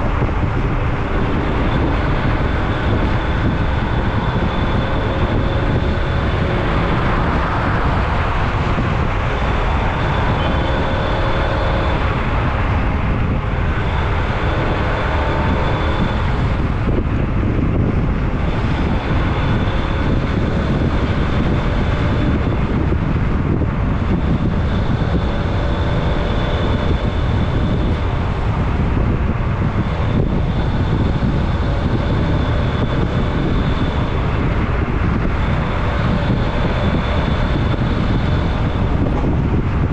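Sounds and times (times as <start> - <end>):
vehicle road and engine noise: 0.0 - 39.9.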